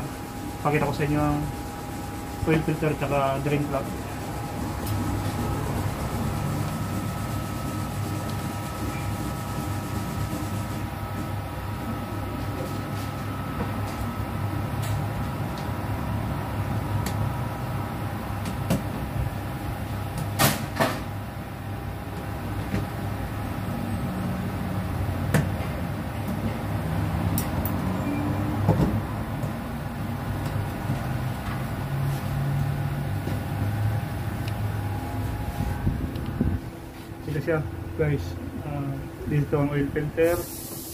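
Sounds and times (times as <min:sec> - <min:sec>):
steady low hum: 0:00.0 - 0:40.4.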